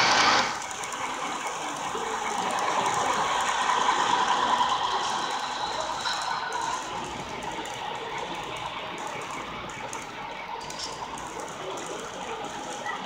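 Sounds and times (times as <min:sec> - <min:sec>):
model train wheels rolling on rails: 0:00.0 - 0:13.0.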